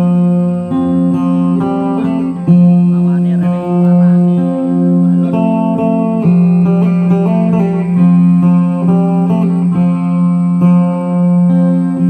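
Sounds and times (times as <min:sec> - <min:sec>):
held low note: 0:00.0 - 0:12.0
plucked acoustic guitar: 0:00.0 - 0:12.0.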